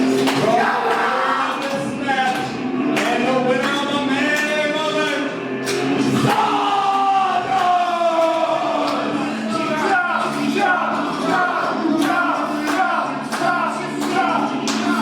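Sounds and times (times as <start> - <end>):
man singing over music: 0.0 - 15.0.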